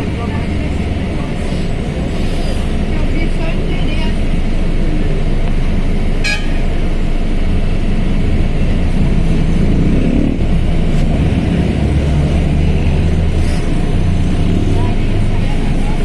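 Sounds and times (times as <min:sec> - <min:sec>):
bus diesel engine droning: 0:00.0 - 0:16.0.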